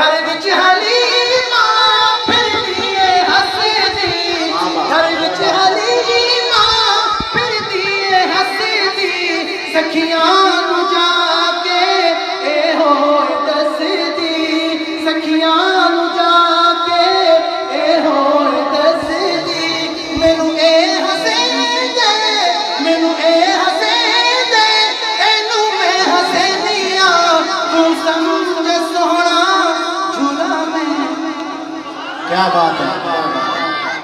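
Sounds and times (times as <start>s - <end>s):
person singing devotional song: 0.0s - 33.3s.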